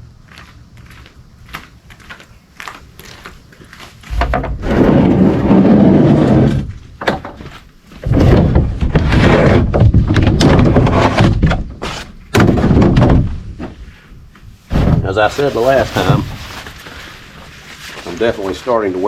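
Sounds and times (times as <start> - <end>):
rumbling rustling on microphone: 0.0 - 19.0.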